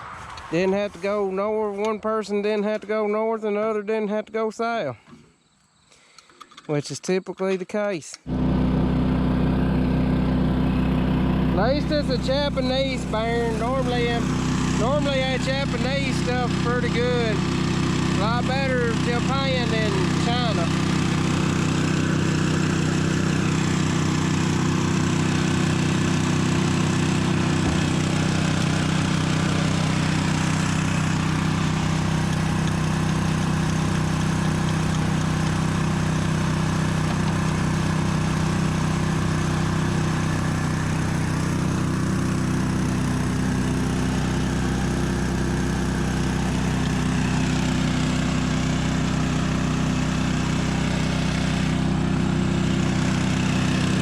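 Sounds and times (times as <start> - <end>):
farm machine engine running: 8.3 - 54.0.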